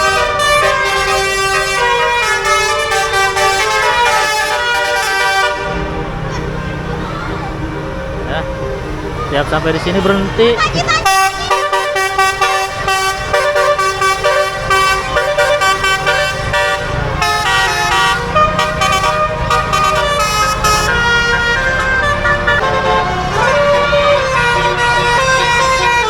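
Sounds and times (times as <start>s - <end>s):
musical bus horn playing: 0.0s - 7.0s, 7.6s - 26.0s.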